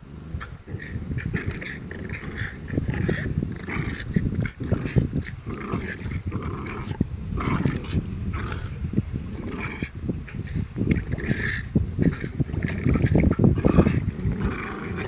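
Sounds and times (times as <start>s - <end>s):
dogs growling: 0.0s - 15.0s.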